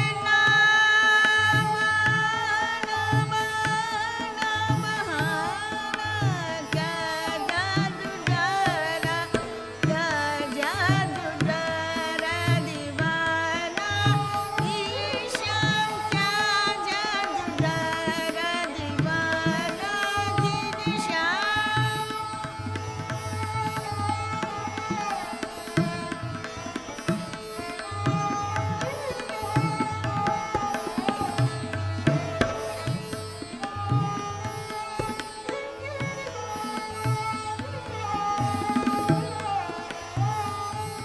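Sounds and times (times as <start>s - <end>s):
sarangi melody: 0.0s - 41.0s
tabla rhythm: 0.0s - 41.0s.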